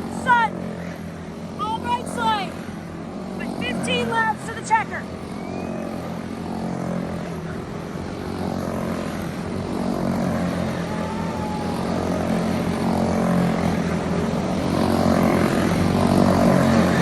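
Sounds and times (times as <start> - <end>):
racing kart engines buzzing: 0.0 - 17.0.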